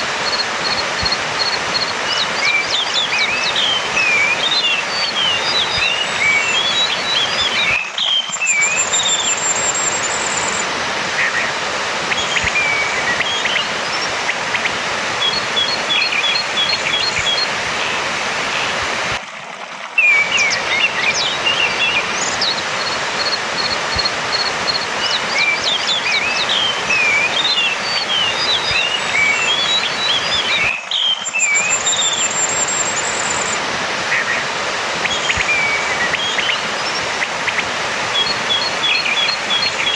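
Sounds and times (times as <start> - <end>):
thrush singing: 0.0 - 19.2, 20.0 - 39.9
steady hiss: 0.0 - 19.4, 20.0 - 39.9.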